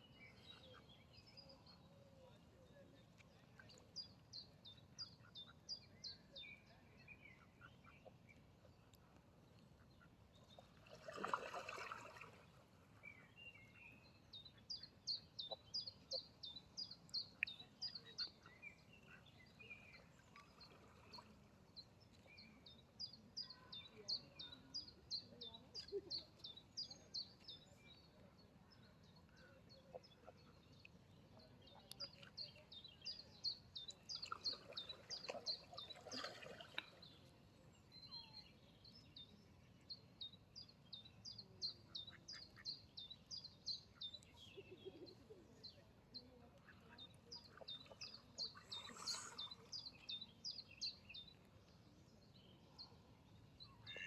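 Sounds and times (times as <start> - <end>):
small birds chirping faintly: 0.0 - 54.0.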